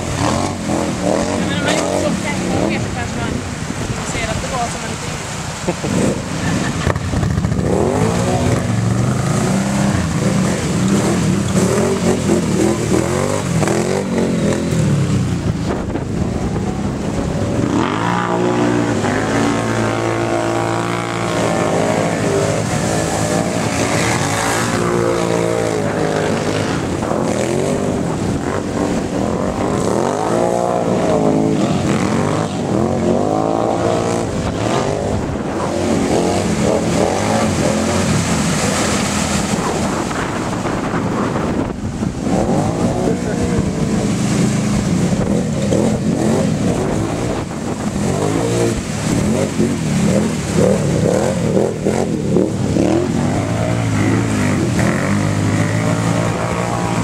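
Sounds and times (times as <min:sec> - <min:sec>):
atv engines revving: 0:00.0 - 0:57.0
water splashing: 0:00.0 - 0:57.0.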